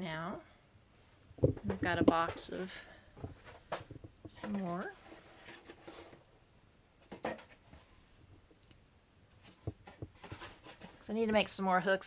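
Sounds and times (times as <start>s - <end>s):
faint handling noise: 1.0s - 11.5s.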